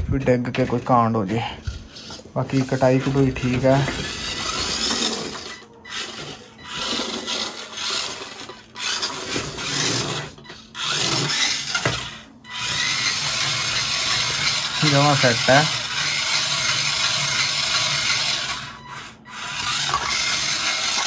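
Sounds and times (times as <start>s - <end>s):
toy motor and gears whirring: 0.9s - 21.0s.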